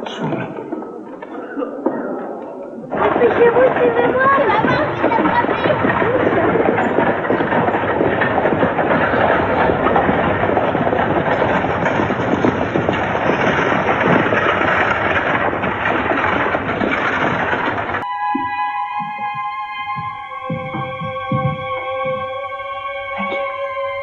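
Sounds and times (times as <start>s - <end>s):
horse carriage clattering: 0.0s - 24.0s.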